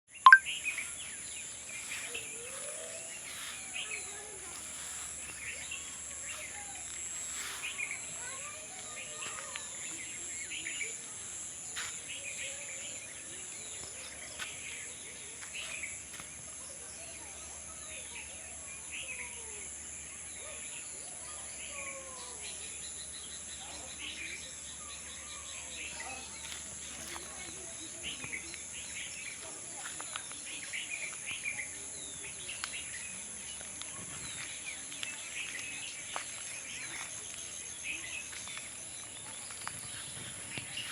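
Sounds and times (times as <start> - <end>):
birds chirping: 0.1 - 19.2, 22.4 - 40.9
insects trilling: 0.4 - 20.1, 21.2 - 40.9.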